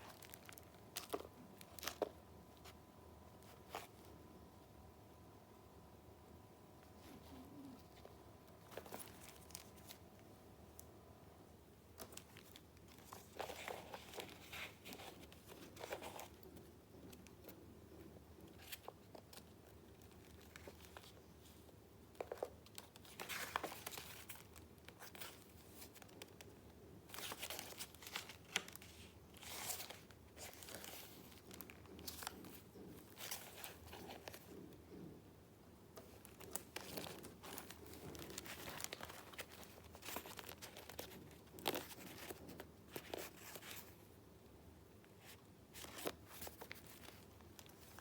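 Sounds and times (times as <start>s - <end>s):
paper rustling and crinkling: 0.0s - 2.8s, 7.0s - 10.0s, 11.9s - 17.6s, 18.4s - 34.8s, 36.0s - 44.1s, 45.2s - 48.0s.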